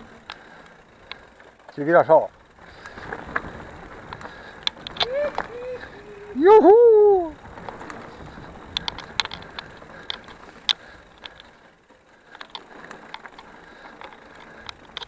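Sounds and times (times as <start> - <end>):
bike rattling on dirt trail: 0.0 - 15.0
bike tyres rolling: 0.0 - 15.0.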